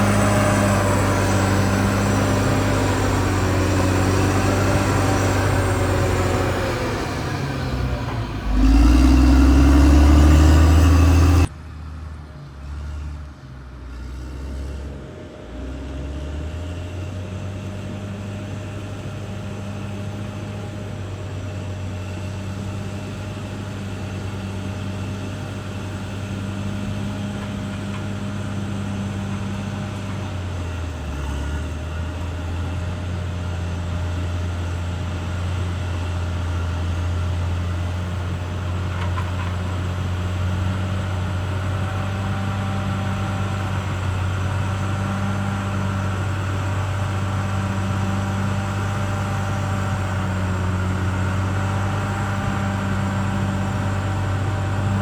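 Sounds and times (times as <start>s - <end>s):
bulldozer diesel engine running: 0.0s - 11.6s, 16.4s - 55.0s.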